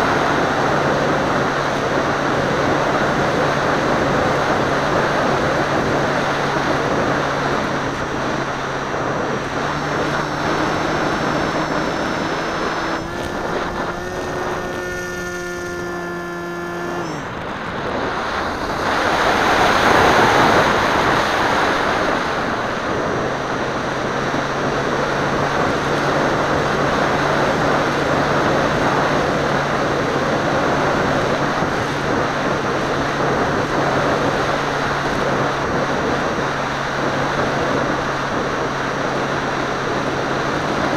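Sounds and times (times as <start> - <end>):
model plane motor and propeller hum: 0.0 - 40.9
wind rushing over microphone: 0.0 - 40.9.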